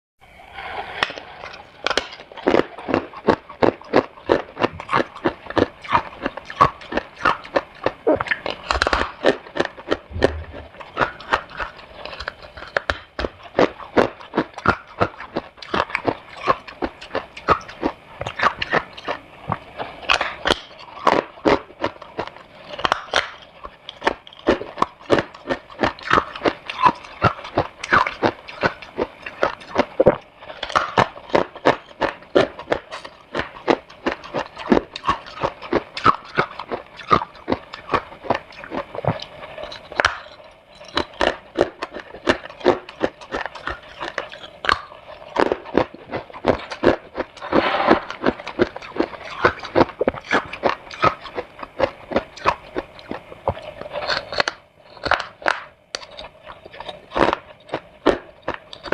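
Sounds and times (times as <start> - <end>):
person chewing crunchy frost: 0.6 - 58.9.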